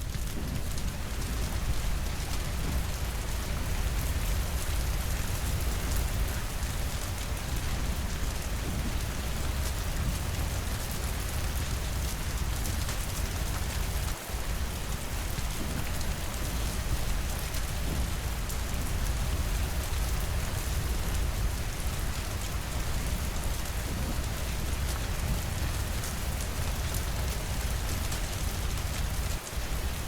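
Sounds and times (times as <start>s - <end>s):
steady rainfall hiss: 0.0s - 30.0s.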